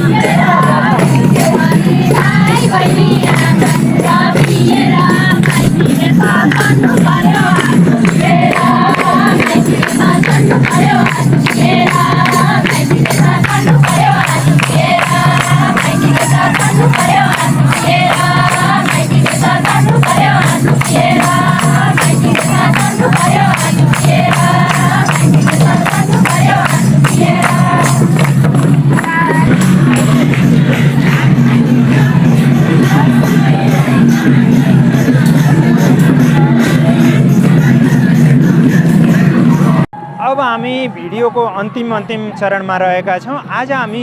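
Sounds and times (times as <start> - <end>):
tambourine jingling: 0.0 - 39.9
singing over percussion beat: 0.0 - 44.0.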